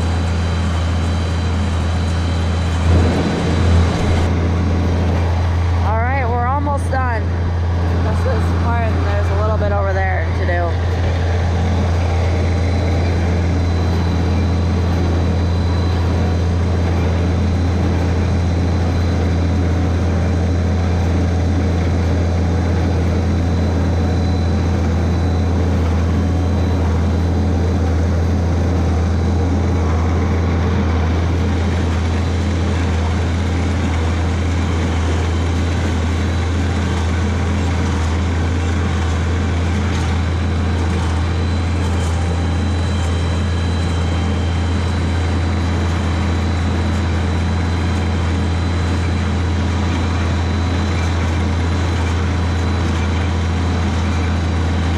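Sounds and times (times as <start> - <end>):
baler machinery running: 0.0 - 54.9
tractor engine droning: 0.0 - 54.9.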